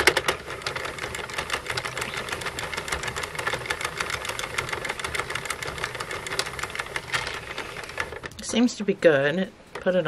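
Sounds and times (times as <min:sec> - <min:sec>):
knitting machine needles clicking: 0:00.0 - 0:08.6.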